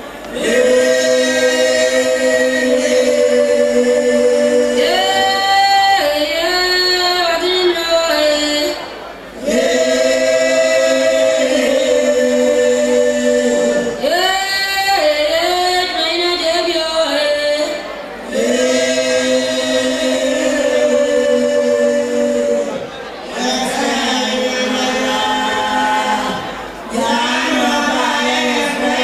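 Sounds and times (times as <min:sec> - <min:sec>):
choir singing held notes: 0:00.0 - 0:06.8, 0:08.2 - 0:16.0, 0:17.7 - 0:29.0.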